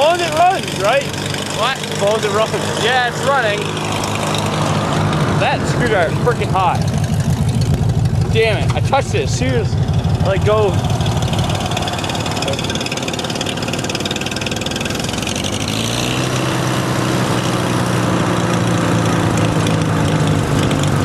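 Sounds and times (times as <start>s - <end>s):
tractor engine idling roughly: 0.0s - 21.0s.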